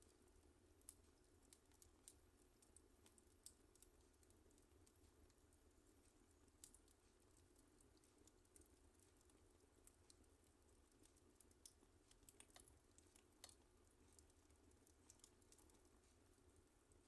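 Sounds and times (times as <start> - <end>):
fireplace wood fire crackling: 0.0 - 17.0
sharp pops and snaps: 0.8 - 16.2.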